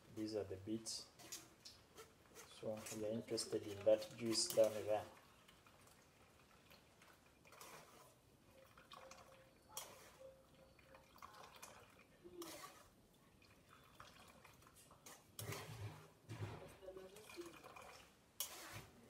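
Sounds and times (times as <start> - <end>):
juice trickling through a strainer: 0.7 - 19.0.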